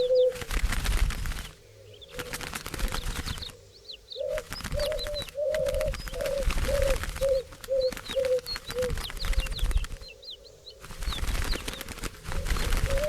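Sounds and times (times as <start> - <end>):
doves cooing: 0.0 - 13.0
wings fluttering: 0.0 - 13.0.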